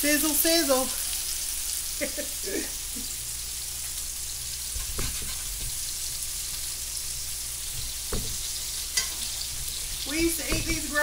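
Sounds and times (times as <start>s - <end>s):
patties sizzling in a skillet: 0.0s - 11.0s.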